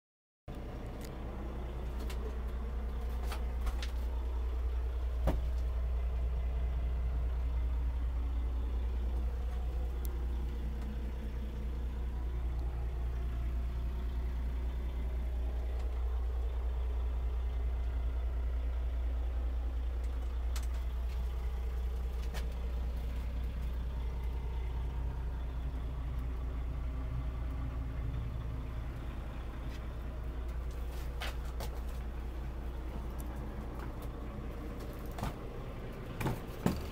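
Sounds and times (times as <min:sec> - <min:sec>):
diesel engine idling: 0:00.5 - 0:36.9.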